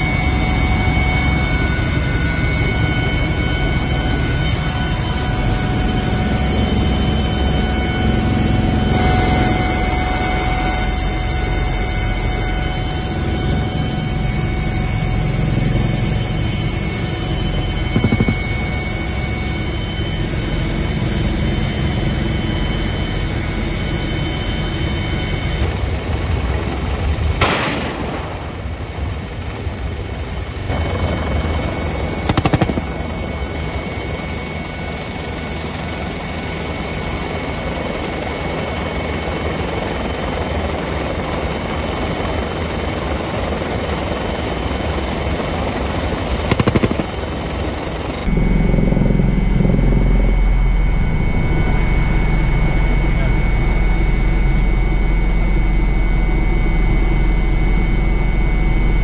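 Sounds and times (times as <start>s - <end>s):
helicopter rotor and turbine: 0.0s - 59.0s
high turbine whine: 0.0s - 59.0s.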